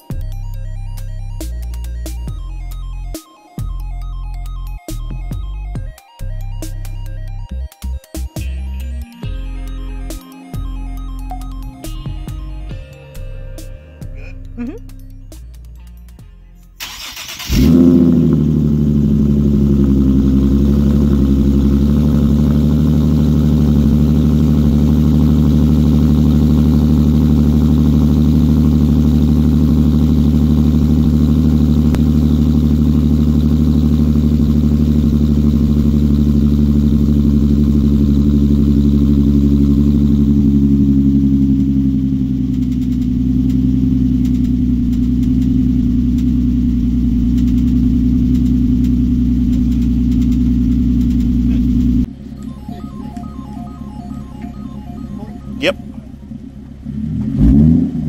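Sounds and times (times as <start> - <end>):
car engine cold-starting and idling: 0.0 - 58.0.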